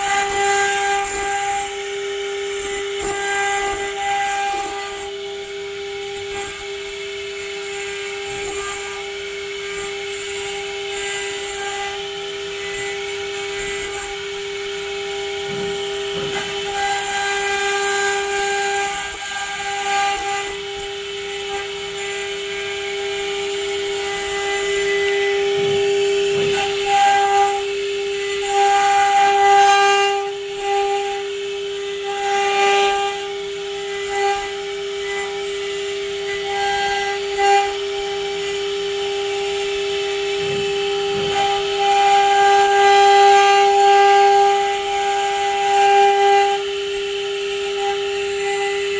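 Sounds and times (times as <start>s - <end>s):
gritty hiss of stone cutting: 0.0s - 48.9s
router spindle whine: 0.0s - 48.9s.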